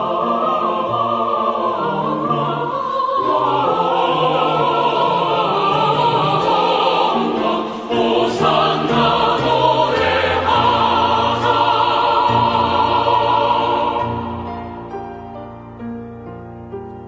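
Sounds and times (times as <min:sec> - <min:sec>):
women's choir singing: 0:00.0 - 0:14.8.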